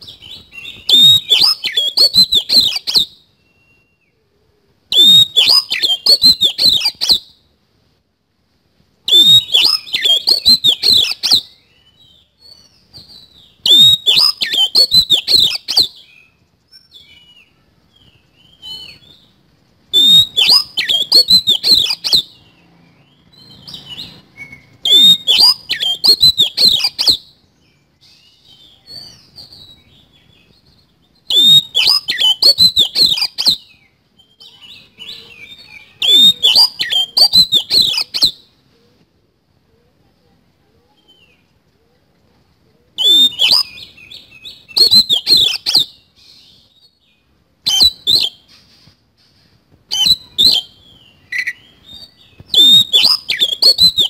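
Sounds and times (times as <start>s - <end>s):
bird singing harsh notes: 0.0s - 4.1s, 4.9s - 7.4s, 9.1s - 38.5s, 43.0s - 47.0s, 47.6s - 48.8s, 49.9s - 54.0s.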